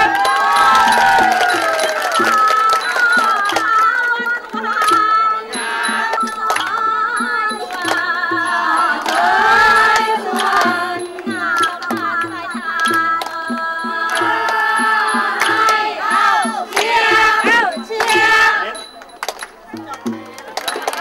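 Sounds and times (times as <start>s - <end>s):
women singing into microphones: 0.0s - 18.8s
hand claps: 0.0s - 21.0s.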